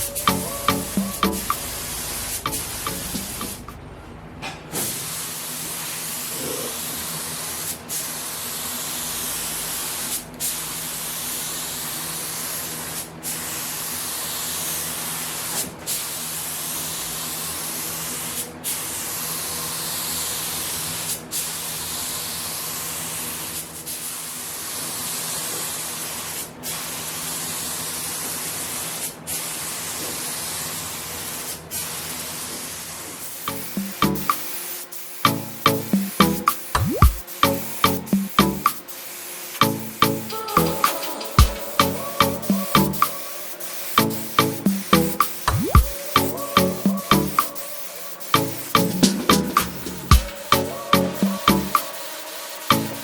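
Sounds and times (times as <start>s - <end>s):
paint spray gun hissing: 0.0s - 3.8s, 4.8s - 53.0s.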